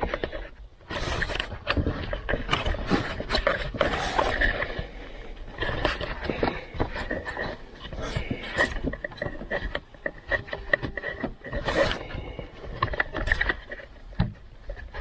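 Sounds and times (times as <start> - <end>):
rubber tube scraping and creaking: 0.0 - 15.0.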